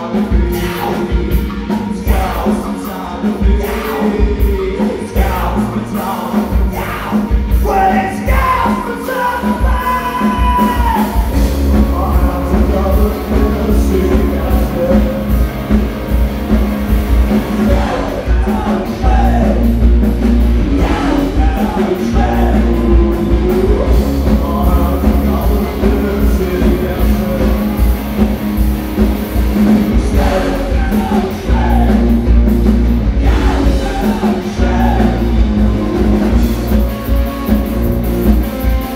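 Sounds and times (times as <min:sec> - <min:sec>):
man singing: 0:00.0 - 0:15.9, 0:17.4 - 0:28.6, 0:29.5 - 0:37.6
bass guitar: 0:00.0 - 0:38.9
drum kit: 0:00.0 - 0:38.9
electric guitars: 0:00.0 - 0:38.9.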